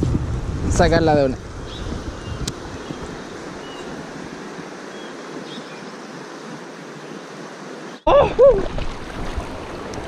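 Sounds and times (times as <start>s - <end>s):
river water rushing: 1.3s - 10.0s.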